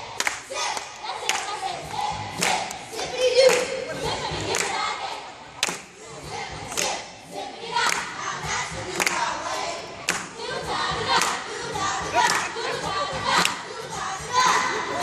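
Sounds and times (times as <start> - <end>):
children chanting and shouting: 0.0 - 15.0.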